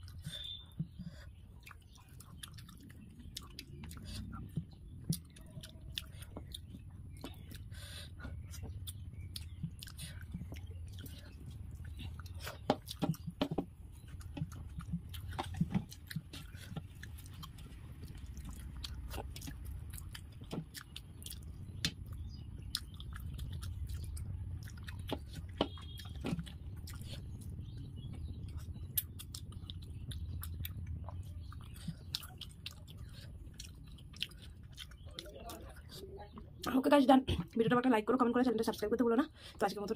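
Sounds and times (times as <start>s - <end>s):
chewing and mouth smacks: 0.0s - 36.7s
low steady hum: 0.0s - 39.9s.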